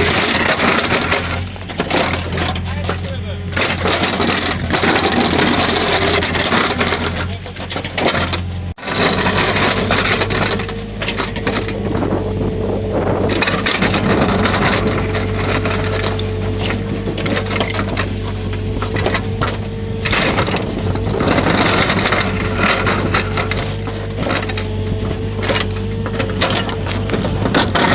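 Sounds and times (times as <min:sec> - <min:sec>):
backhoe engine running under load: 0:00.0 - 0:27.9
ground cracking and scraping: 0:00.0 - 0:27.9.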